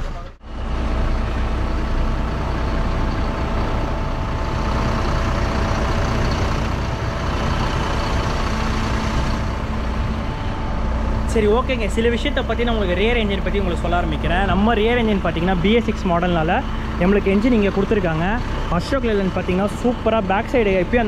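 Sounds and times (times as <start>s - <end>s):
diesel bus engine idling: 0.0s - 21.0s
steady tones: 0.4s - 21.0s.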